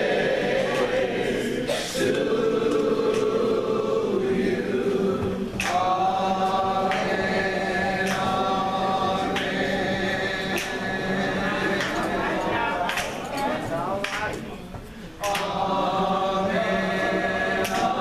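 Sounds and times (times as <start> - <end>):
gospel group singing in harmony: 0.0 - 18.0.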